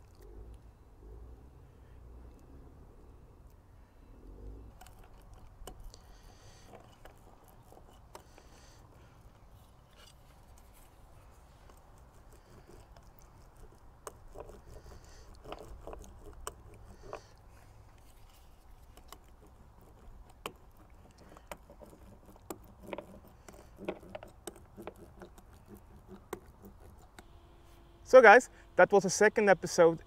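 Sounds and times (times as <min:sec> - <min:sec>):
low steady rumble: 0:00.0 - 0:28.9.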